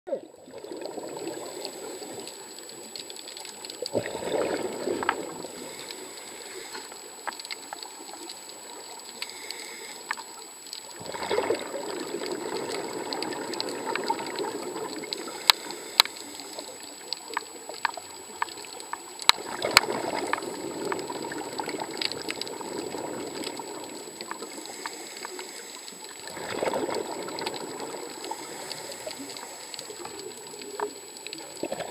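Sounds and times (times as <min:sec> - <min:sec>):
underwater bubbles rushing: 0:00.1 - 0:09.2, 0:10.5 - 0:31.9
watery hiss: 0:00.4 - 0:31.9
sharp underwater clicks: 0:01.6 - 0:31.9.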